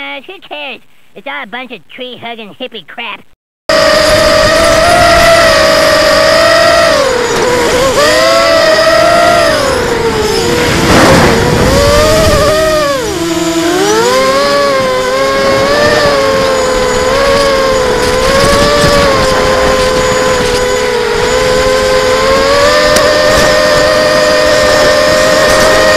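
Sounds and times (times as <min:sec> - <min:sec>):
quadcopter motors whining: 0:03.7 - 0:25.9
wind noise rush: 0:03.7 - 0:25.9.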